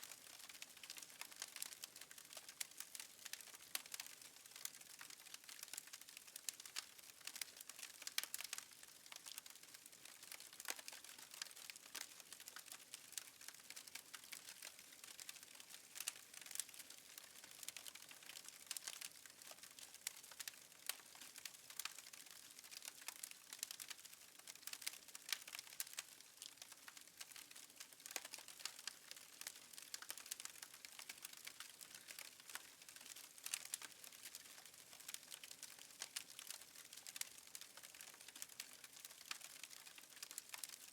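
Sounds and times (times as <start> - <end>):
fireplace fire crackling: 0.0 - 40.9.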